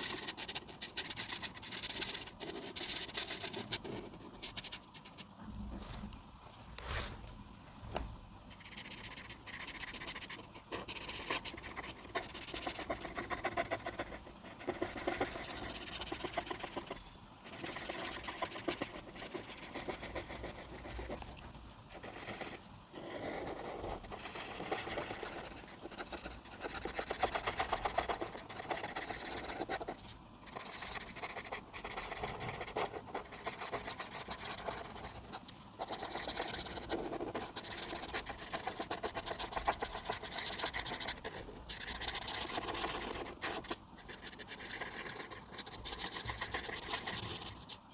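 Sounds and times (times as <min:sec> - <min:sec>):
coloring tool scratching on paper: 0:00.0 - 0:05.3, 0:08.6 - 0:21.2, 0:21.9 - 0:47.8.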